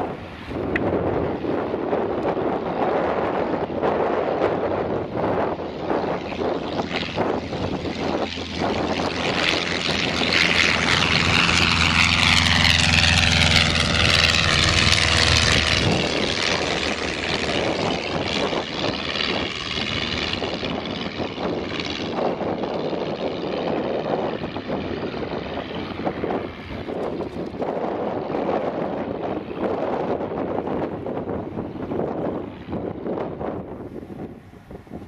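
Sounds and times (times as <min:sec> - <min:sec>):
propeller plane engine: 0:00.0 - 0:35.0.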